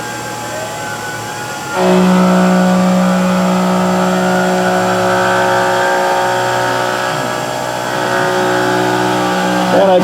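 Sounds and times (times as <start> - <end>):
milling machine cutting metal: 0.0 - 10.0.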